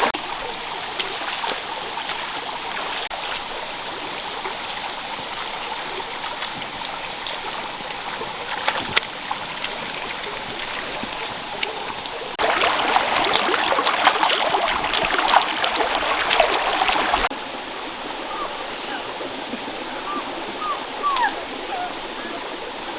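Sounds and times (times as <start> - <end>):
small water splashes: 0.0 - 22.9
stream water trickling: 0.0 - 22.9.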